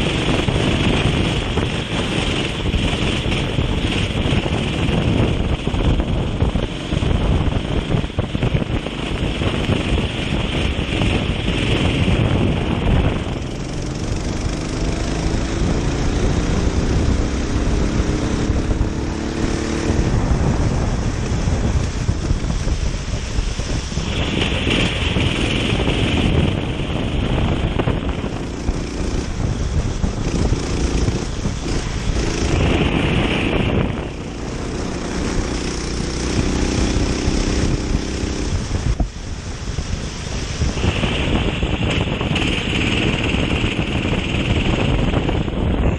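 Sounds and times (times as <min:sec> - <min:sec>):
kart engine accelerating: 0:00.0 - 0:22.9, 0:23.7 - 0:39.0, 0:40.7 - 0:45.9
wind noise on microphone: 0:00.0 - 0:45.9.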